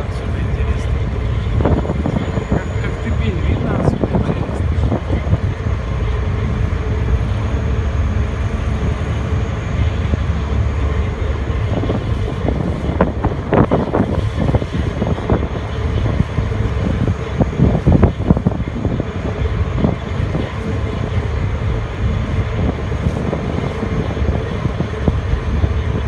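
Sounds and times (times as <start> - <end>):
ferry engines rumbling: 0.0 - 26.0
wind buffeting microphone: 0.0 - 26.0.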